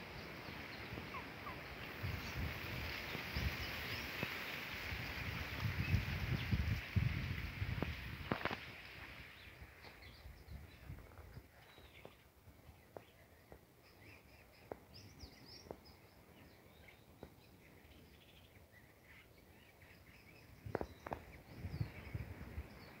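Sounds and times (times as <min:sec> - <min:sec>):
birds chirping: 0:00.0 - 0:04.6, 0:09.2 - 0:23.0.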